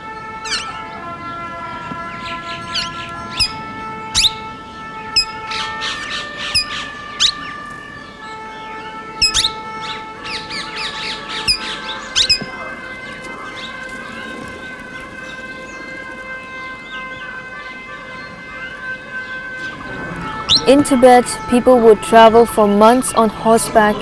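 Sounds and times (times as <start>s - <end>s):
parakeets squawking: 0.0s - 24.0s
steady drone of held tones: 0.0s - 24.0s.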